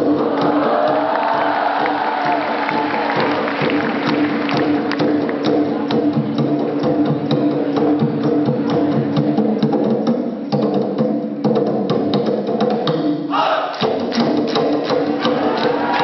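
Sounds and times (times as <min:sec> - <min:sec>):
fast percussion clicking strikes: 0:00.0 - 0:13.1, 0:13.8 - 0:16.0.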